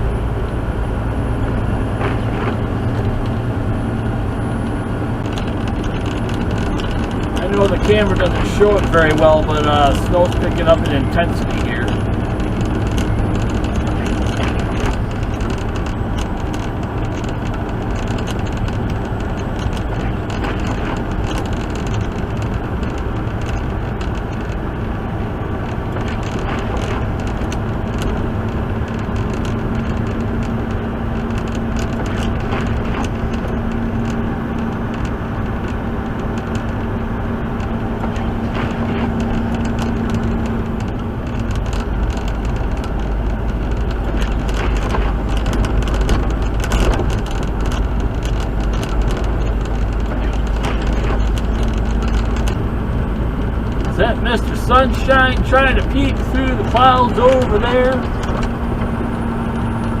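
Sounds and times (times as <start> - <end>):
truck engine and road noise: 0.0 - 60.0.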